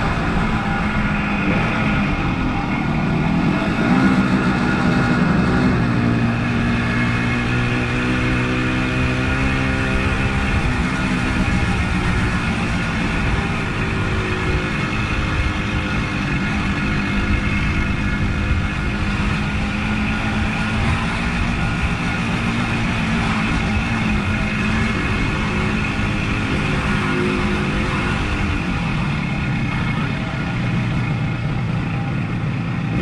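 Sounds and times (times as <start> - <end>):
motorcycle engine running: 0.0 - 33.0
steady rushing noise: 0.0 - 33.0.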